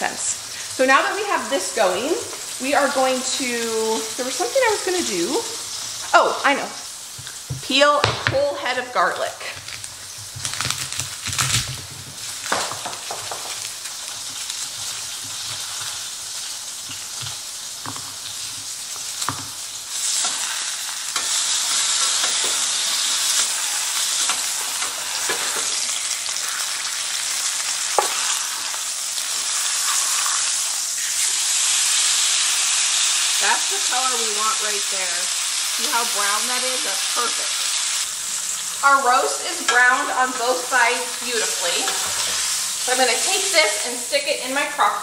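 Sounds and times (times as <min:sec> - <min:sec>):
meat sizzling in skillet: 0:00.0 - 0:45.0.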